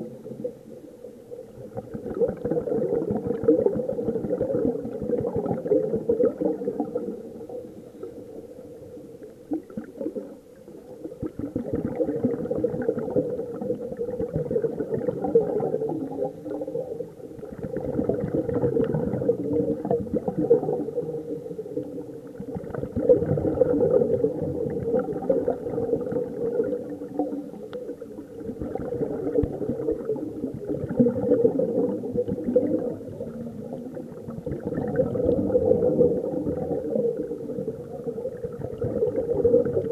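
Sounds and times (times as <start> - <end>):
underwater regulator bubbling: 0.0 - 39.9.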